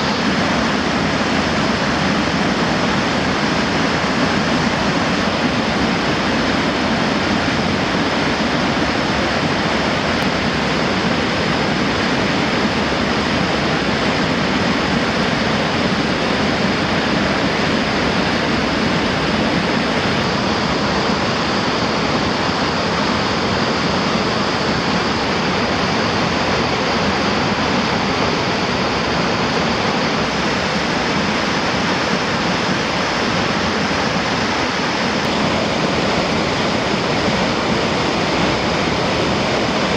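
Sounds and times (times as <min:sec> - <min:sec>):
river water rushing over falls: 0:00.0 - 0:39.9.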